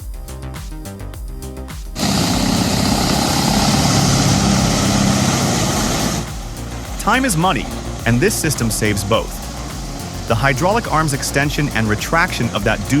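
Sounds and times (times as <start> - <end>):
background music: 0.0 - 13.0
wood chipper running: 2.0 - 13.0.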